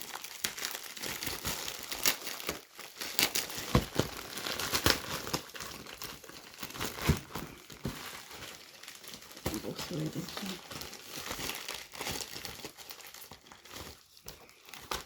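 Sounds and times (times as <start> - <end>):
packaging crinkling and snapping: 0.0 - 15.0.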